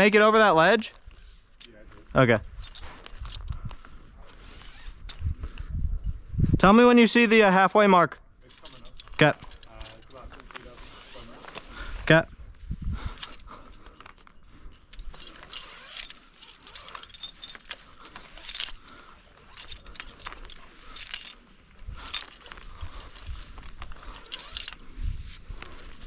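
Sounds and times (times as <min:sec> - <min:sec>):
rope hauled through anchor: 0:01.0 - 0:05.6, 0:08.5 - 0:26.0
carabiners clinking: 0:01.0 - 0:06.2, 0:08.4 - 0:12.1, 0:12.9 - 0:26.0.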